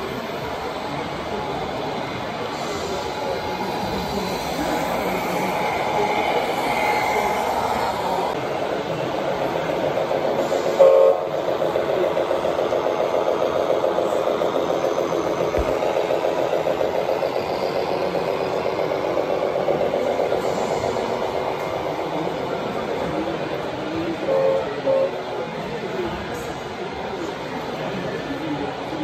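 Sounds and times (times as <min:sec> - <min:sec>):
electronic diesel engine sound: 0:00.0 - 0:26.8.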